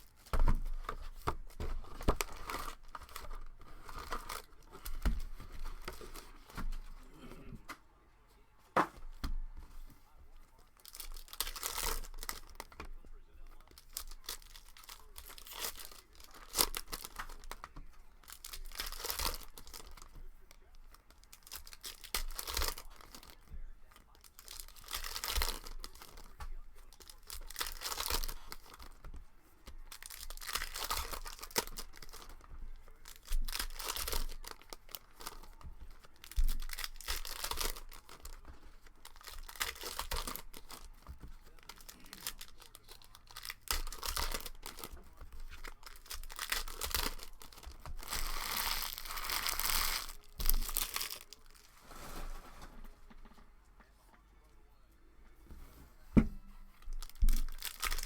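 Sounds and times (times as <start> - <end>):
card pack wrappers tearing: 0.0 - 6.9, 10.8 - 12.8, 13.5 - 51.7, 56.9 - 58.0.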